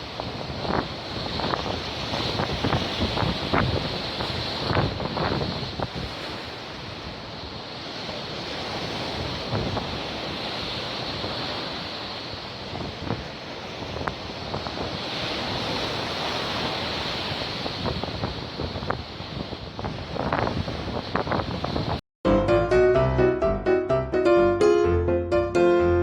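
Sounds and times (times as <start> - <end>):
wind buffeting microphone: 0.0 - 7.3, 8.1 - 22.0
sea surf breaking on shore: 0.0 - 22.0.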